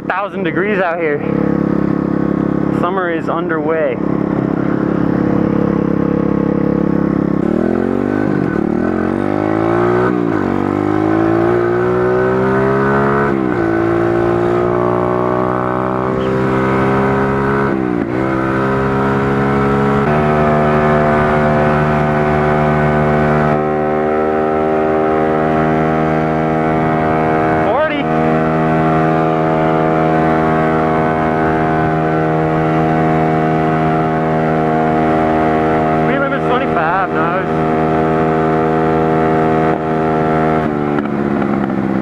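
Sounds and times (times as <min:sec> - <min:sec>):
motorbike engine revving: 0:00.0 - 0:42.0.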